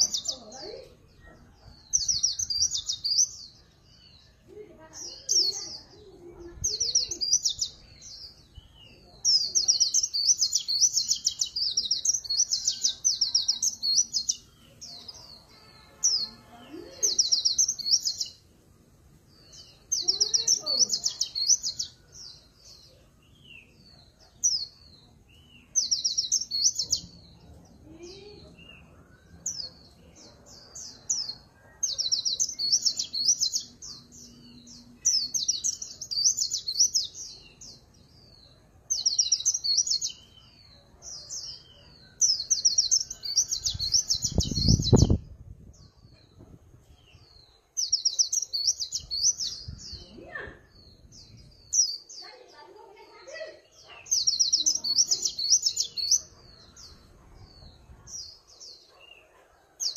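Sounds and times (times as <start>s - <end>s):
bird singing high chattering song: 0.0s - 59.9s.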